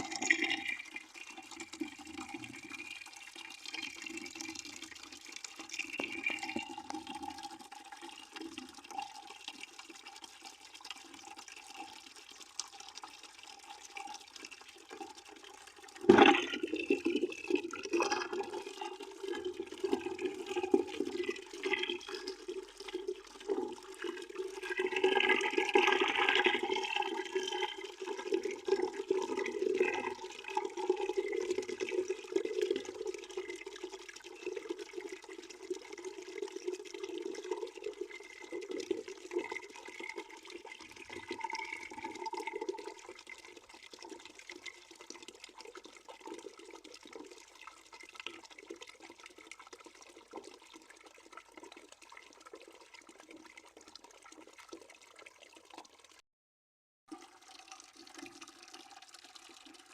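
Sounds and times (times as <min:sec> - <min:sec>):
water pouring into a bucket: 0:00.0 - 0:56.2, 0:57.1 - 0:59.9.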